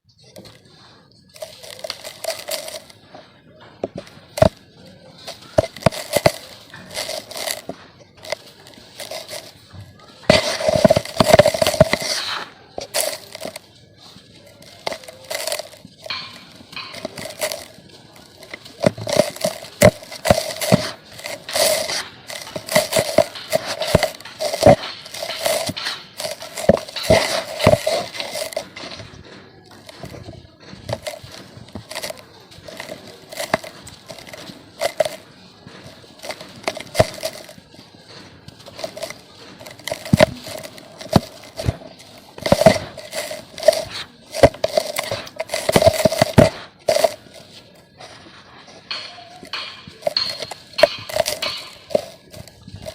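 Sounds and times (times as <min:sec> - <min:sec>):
dry dirt crunching by hand: 0:00.2 - 0:52.9.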